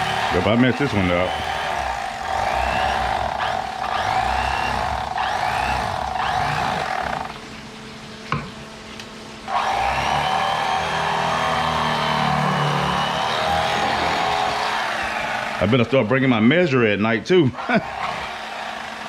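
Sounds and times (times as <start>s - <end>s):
electric fillet knife motor: 0.0s - 7.5s, 9.5s - 15.9s, 17.6s - 19.0s.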